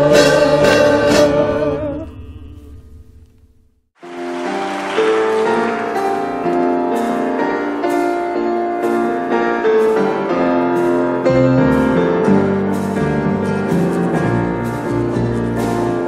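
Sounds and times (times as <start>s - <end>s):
piano music: 0.0s - 2.8s, 4.0s - 16.0s.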